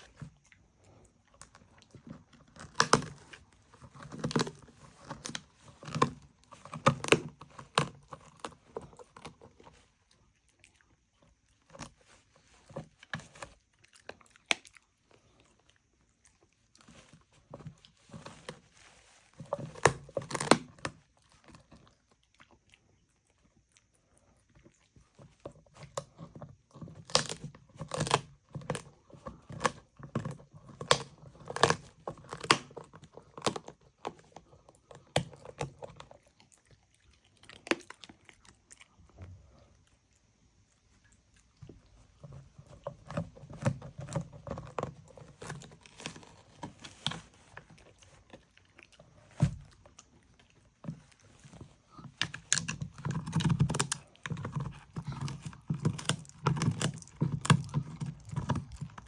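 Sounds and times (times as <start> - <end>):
dog crunching food: 0.0 - 59.0.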